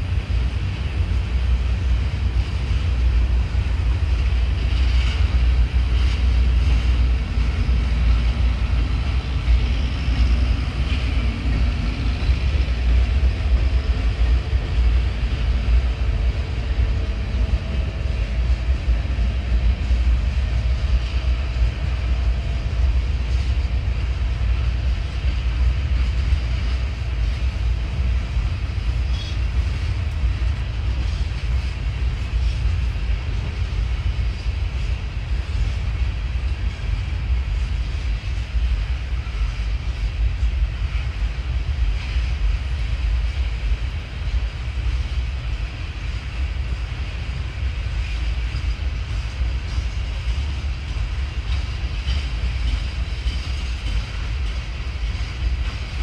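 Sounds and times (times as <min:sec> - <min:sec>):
freight train rumbling: 0:00.0 - 0:56.0.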